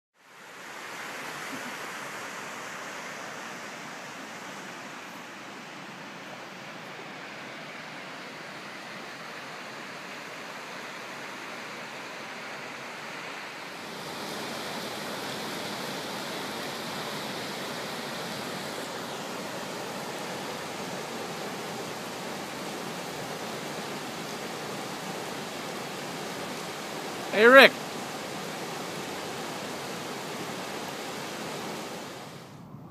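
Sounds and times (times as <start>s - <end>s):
waterfall rushing into pool: 0.2s - 32.6s.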